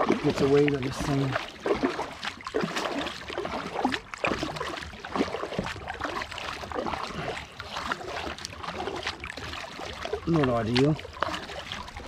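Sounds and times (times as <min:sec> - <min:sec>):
paddle splashing in water: 0:00.0 - 0:12.0
water gurgling along hull: 0:00.0 - 0:12.0.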